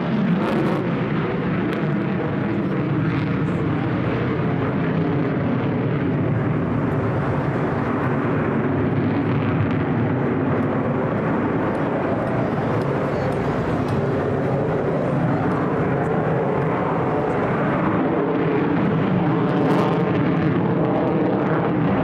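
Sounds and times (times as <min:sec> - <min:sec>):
jet engine afterburner rumble: 0:00.0 - 0:22.0.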